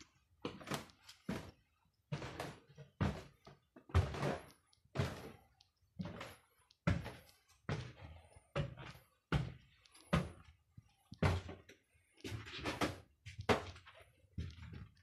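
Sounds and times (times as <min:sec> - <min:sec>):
footsteps on wooden floorboards: 0:00.0 - 0:15.0.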